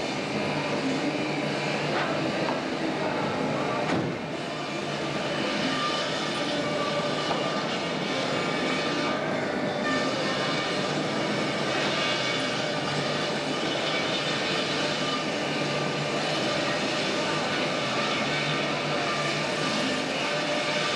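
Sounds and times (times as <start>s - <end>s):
wood grinder running: 0.0s - 20.9s.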